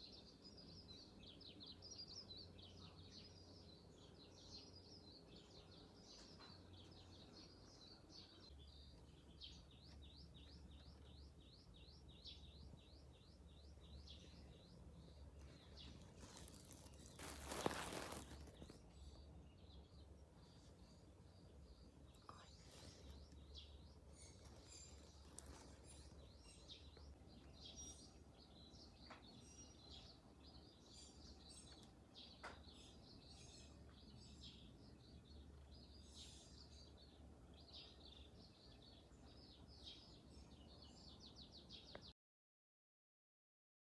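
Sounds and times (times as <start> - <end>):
small birds chirping: 0.0 - 42.1.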